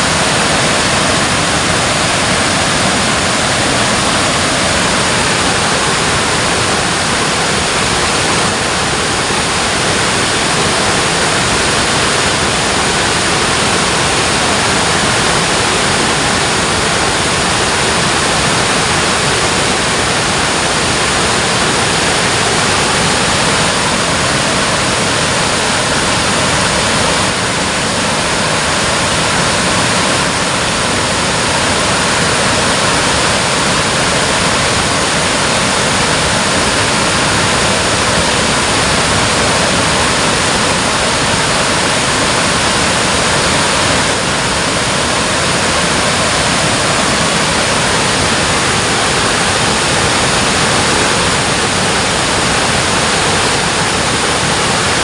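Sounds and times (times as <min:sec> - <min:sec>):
water rushing over a dam: 0:00.0 - 0:55.0.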